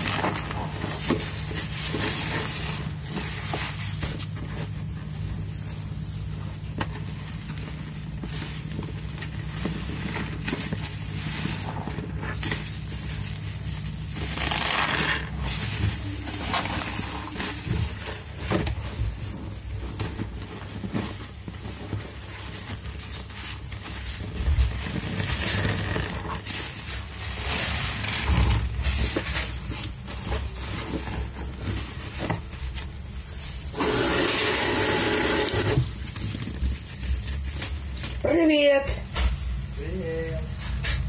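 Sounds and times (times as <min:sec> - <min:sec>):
squelching soapy foam sponges: 0:00.0 - 0:40.8
low steady hum: 0:00.0 - 0:41.0.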